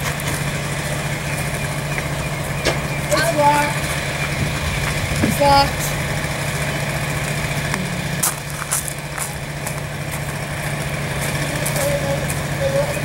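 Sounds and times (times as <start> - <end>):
engine drone: 0.0 - 13.0
low hum: 0.0 - 13.0.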